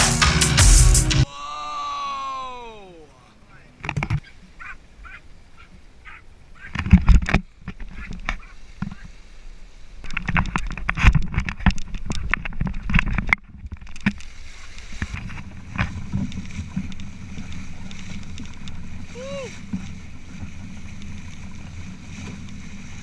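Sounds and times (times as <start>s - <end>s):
water splashing along hull: 1.9s - 23.0s.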